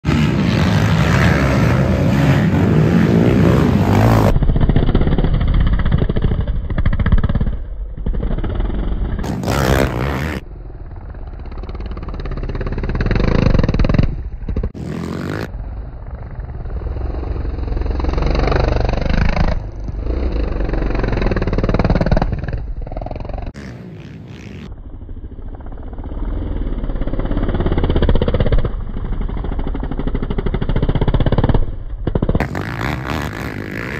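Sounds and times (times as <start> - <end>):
quad engines revving: 0.0 - 15.5, 16.4 - 33.9.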